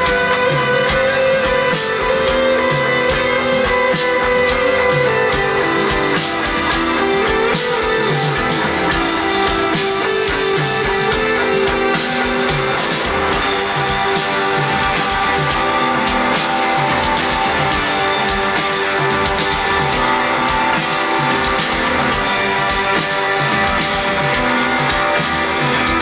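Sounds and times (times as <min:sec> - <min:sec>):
drums: 0:00.0 - 0:26.0
electric guitar melodic lines: 0:00.0 - 0:26.0.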